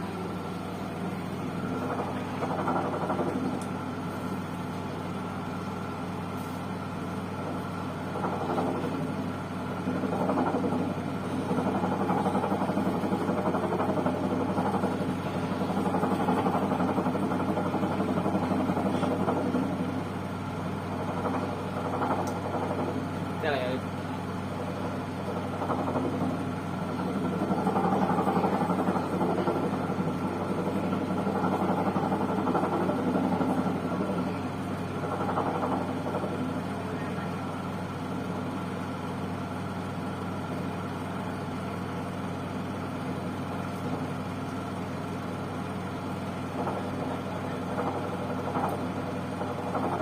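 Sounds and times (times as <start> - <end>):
washing machine spinning: 0.0 - 50.0.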